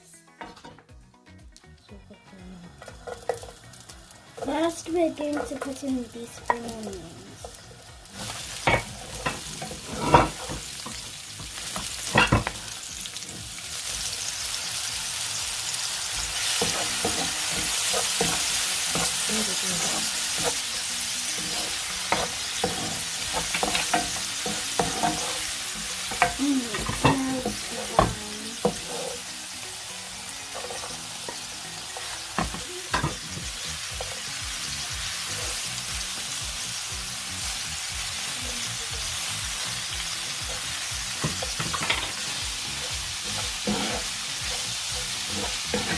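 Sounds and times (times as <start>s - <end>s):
oil sizzling in a wok: 2.2s - 45.9s
utensil scraping a wok: 2.8s - 6.7s, 7.4s - 14.8s, 15.6s - 36.4s, 39.7s - 45.9s.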